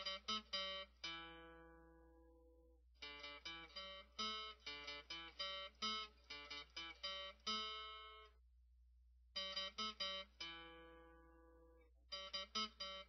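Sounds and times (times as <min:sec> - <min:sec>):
acoustic guitar picking melody: 0:00.0 - 0:08.3, 0:09.4 - 0:13.0.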